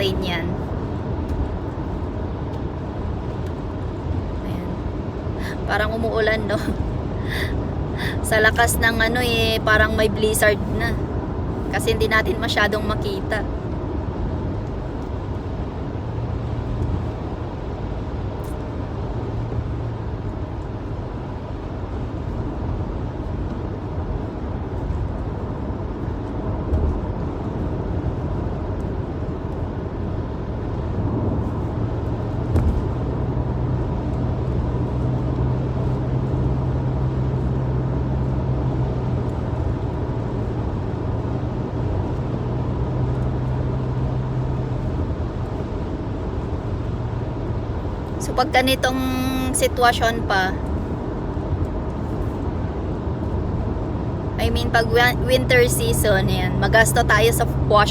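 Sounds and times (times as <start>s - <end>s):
low hum: 0.0s - 23.3s, 24.8s - 57.9s
car road and engine noise: 0.0s - 57.9s.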